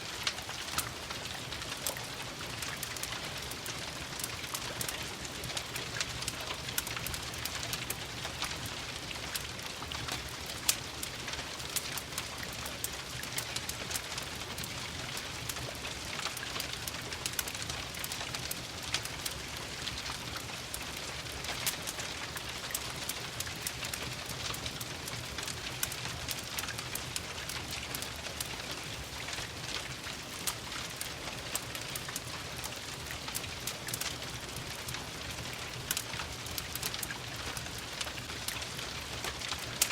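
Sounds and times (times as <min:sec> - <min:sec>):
rain pattering: 0:00.0 - 0:39.9
wood fire crackling: 0:00.0 - 0:39.9.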